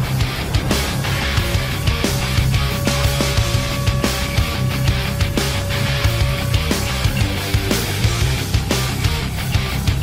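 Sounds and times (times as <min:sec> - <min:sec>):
heavy rock music: 0:00.0 - 0:10.0.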